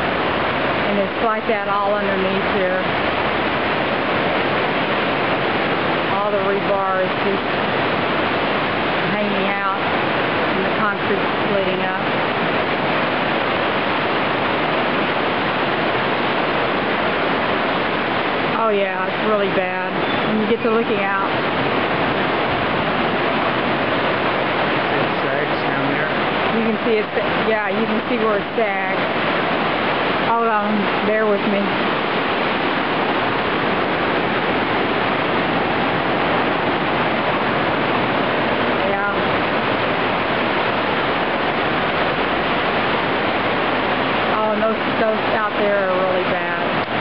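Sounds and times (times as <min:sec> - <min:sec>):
ocean surf rushing: 0:00.0 - 0:47.0
waves washing around pier pilings: 0:00.0 - 0:47.0.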